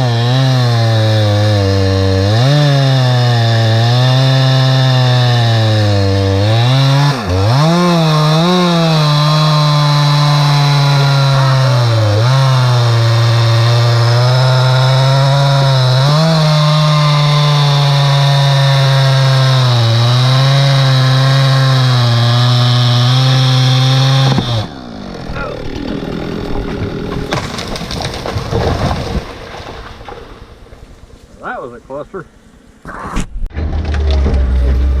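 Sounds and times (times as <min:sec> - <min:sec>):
chainsaw cutting wood: 0:00.0 - 0:30.2.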